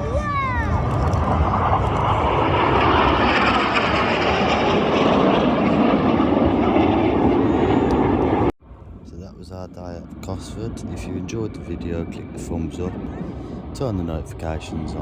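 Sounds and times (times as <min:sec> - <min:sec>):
aircraft engine flying past: 0:00.0 - 0:15.0.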